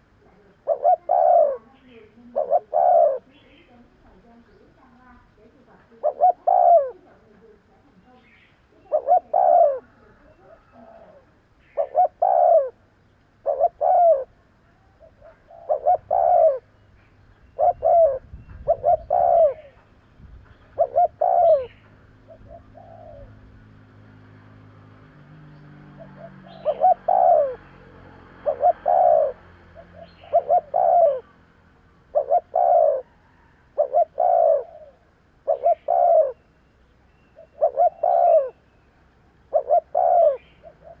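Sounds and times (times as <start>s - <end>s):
dove cooing: 0.0s - 16.8s, 17.4s - 23.8s, 24.8s - 41.0s.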